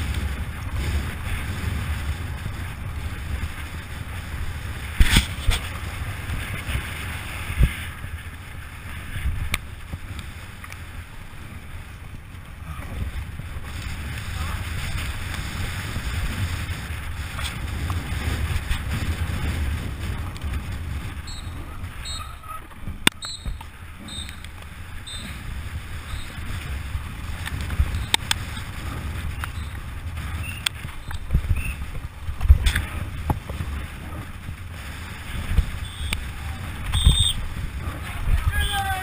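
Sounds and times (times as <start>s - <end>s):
tyres rumbling on dirt: 0.0s - 39.0s
wind rushing over microphone: 0.0s - 39.0s.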